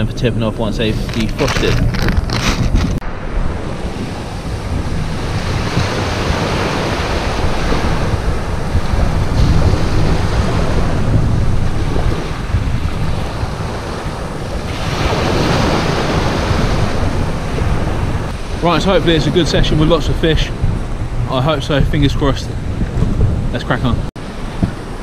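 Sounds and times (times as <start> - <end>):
wind buffeting microphone: 0.0 - 25.0
waves washing over shingle: 0.9 - 25.0.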